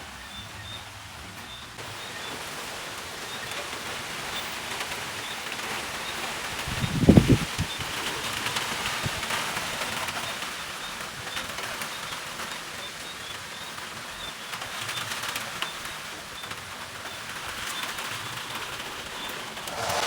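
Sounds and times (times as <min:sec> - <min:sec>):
rain and wind hiss: 0:01.8 - 0:14.8, 0:15.7 - 0:20.0.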